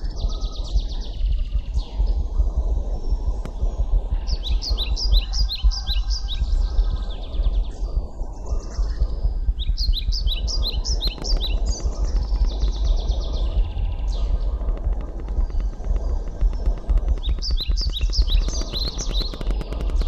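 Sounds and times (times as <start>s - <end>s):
bird chirping: 0.0s - 20.0s
steady low rumble: 0.0s - 20.0s.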